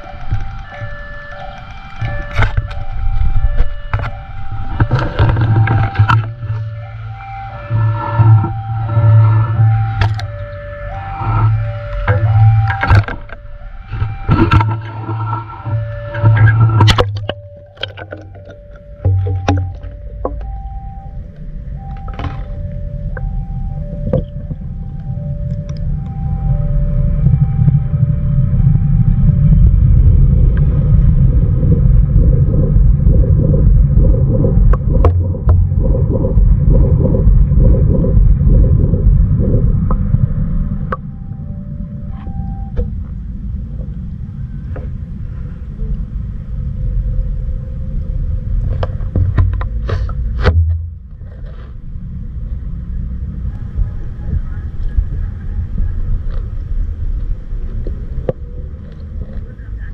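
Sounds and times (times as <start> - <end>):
underwater low rumble: 0.0 - 59.9.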